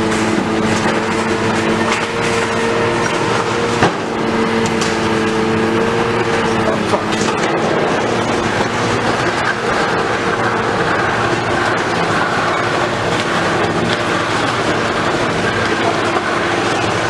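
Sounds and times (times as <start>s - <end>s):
demolition machinery engine din: 0.0s - 17.0s.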